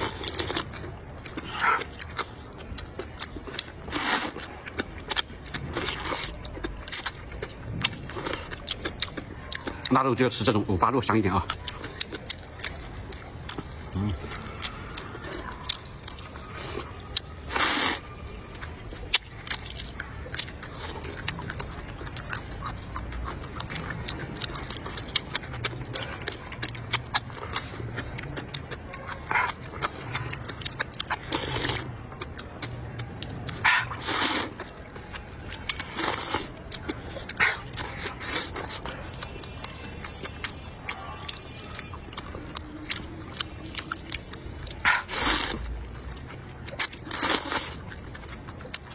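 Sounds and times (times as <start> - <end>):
person chewing and biting food: 0.0 - 9.9, 11.4 - 48.9.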